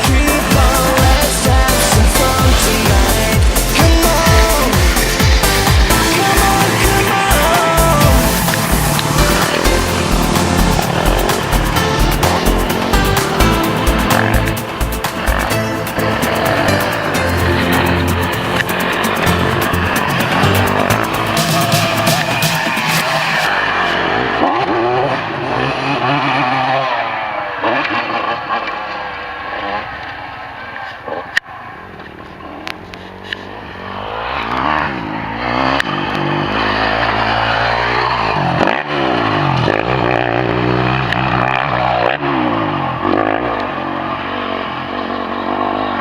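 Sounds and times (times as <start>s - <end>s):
motocross bike engines revving: 0.0s - 46.0s.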